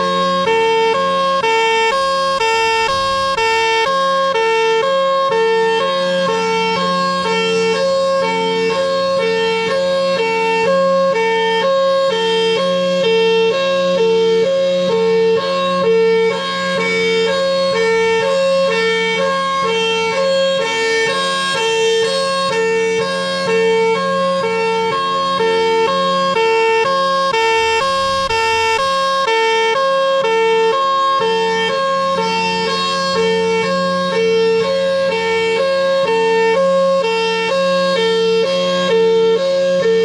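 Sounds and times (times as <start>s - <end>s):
steady low drone: 0.0s - 40.0s
two-tone siren wail: 0.0s - 40.0s.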